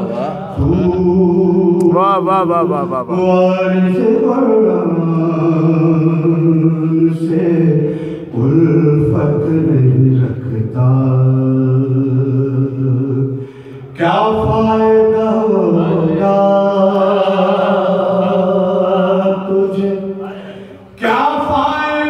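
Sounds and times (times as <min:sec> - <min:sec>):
man singing mourning song: 0:00.0 - 0:13.4, 0:14.0 - 0:22.0.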